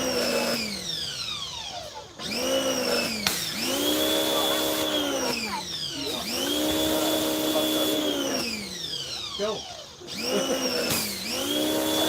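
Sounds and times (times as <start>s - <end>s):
pressure washer motor: 0.0s - 12.0s.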